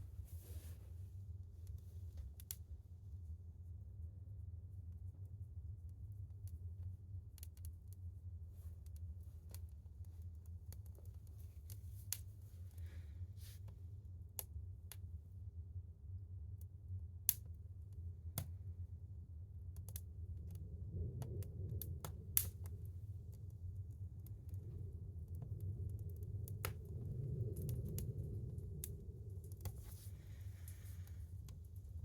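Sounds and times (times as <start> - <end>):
fire crackling in wood stove: 0.0 - 32.0
low steady hum: 0.0 - 32.0.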